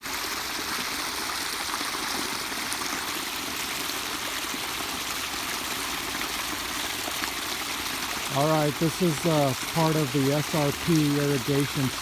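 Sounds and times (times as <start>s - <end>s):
water flowing in a ditch: 0.0s - 12.0s.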